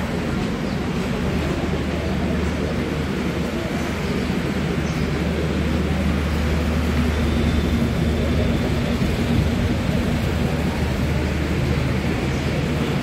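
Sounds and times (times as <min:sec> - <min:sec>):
train engine idling: 0:00.0 - 0:13.0.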